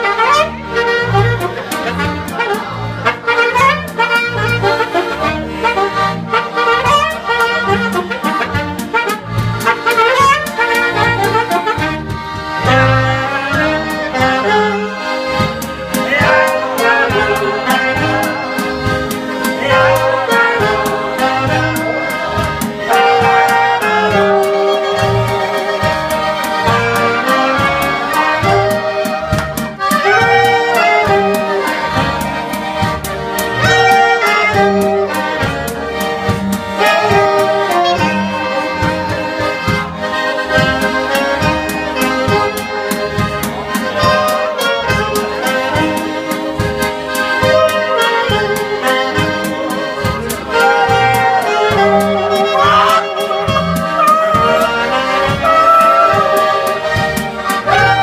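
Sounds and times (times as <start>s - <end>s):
accordion: 0.0s - 58.0s
pulsing bass line: 1.1s - 58.0s.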